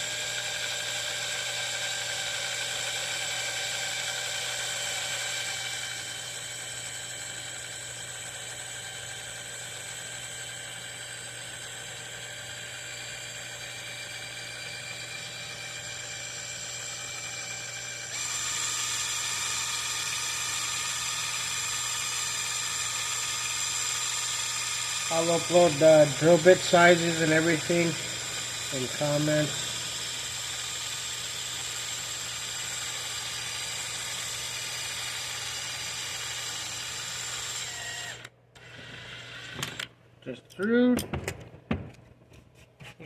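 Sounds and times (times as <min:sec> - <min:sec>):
small electric drill whining: 0:00.0 - 0:39.9.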